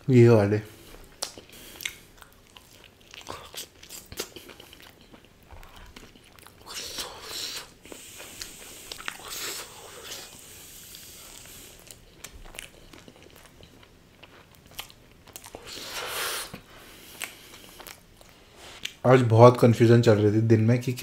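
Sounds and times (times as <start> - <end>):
person chewing pizza: 0.8 - 19.0.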